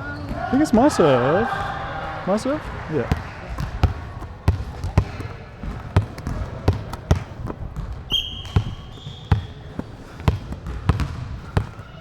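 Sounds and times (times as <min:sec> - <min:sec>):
ball bouncing on court floor: 0:00.0 - 0:12.0.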